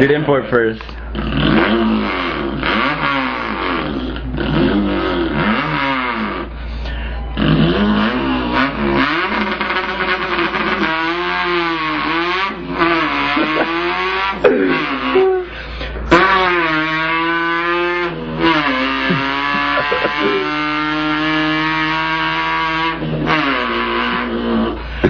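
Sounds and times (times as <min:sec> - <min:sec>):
man imitating revving engine: 0:01.0 - 0:25.0.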